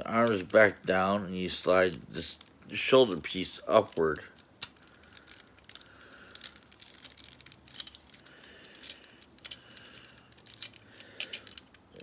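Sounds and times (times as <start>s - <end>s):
plastic toy parts clicking: 0.0s - 0.9s, 1.6s - 12.0s.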